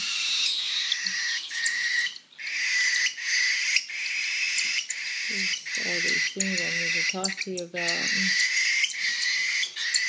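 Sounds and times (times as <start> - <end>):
baby birds begging calls: 0.0 - 10.0.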